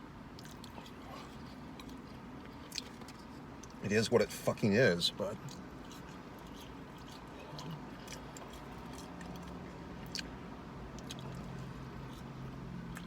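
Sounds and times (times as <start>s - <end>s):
steady low hum: 0.0s - 13.0s
person chewing french fries: 0.2s - 3.8s, 5.4s - 13.0s.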